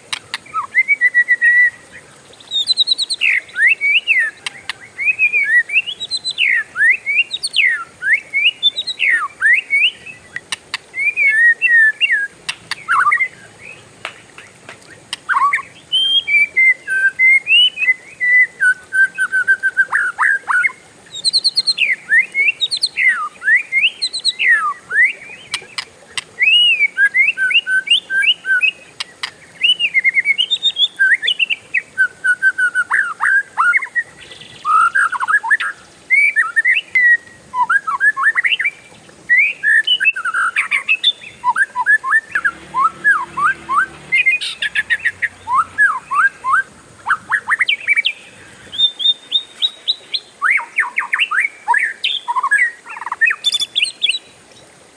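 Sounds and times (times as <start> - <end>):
magpie-robin singing: 2.4 - 10.3, 15.2 - 54.3.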